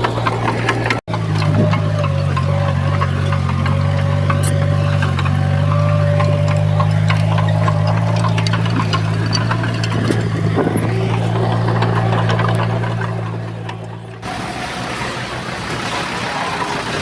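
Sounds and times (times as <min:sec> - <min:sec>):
diesel engine running: 0:00.0 - 0:17.0
light clanks and rattles: 0:00.0 - 0:17.0.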